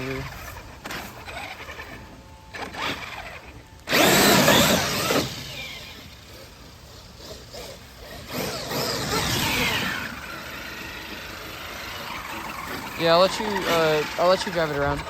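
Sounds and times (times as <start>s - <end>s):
toy truck electric motor whining: 0.0s - 15.0s
tyres spinning on wet ground: 0.0s - 15.0s.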